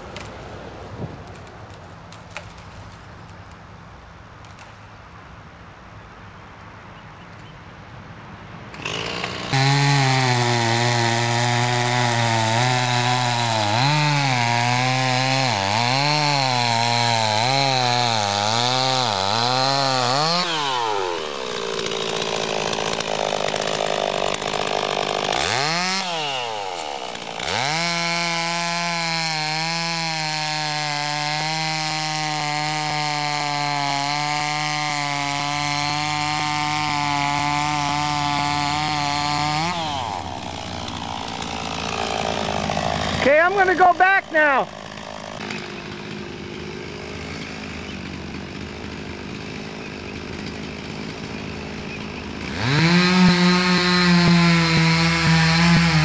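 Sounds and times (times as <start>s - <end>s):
two-stroke chainsaw revving: 8.7s - 56.0s.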